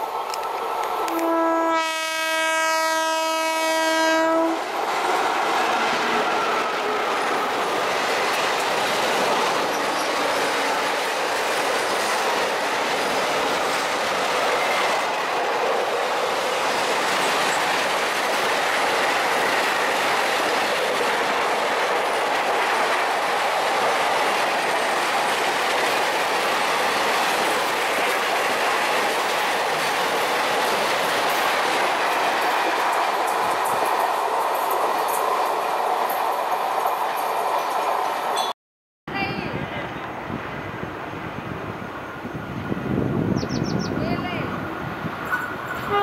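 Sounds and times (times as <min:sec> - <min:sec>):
steel wheels on rails: 0:00.0 - 0:01.4, 0:03.5 - 0:38.6, 0:44.0 - 0:46.0.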